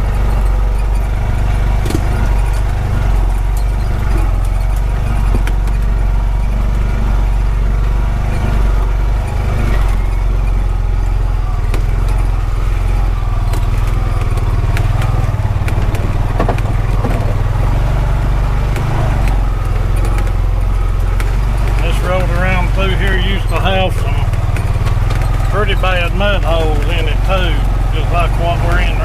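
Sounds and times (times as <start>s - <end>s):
clicks and knocks over bumps: 0.0s - 29.0s
vehicle engine running: 0.0s - 29.0s.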